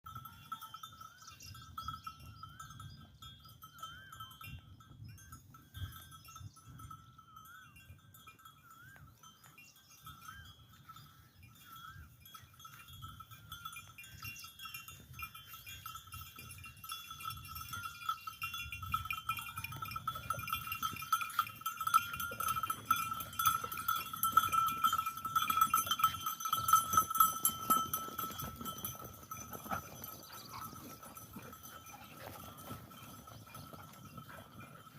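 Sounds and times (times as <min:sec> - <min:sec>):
goat bells clinking and ringing: 0:00.0 - 0:34.9.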